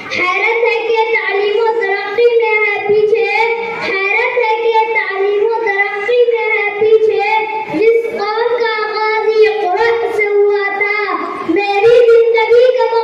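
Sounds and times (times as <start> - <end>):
boy chanting: 0.0 - 13.0.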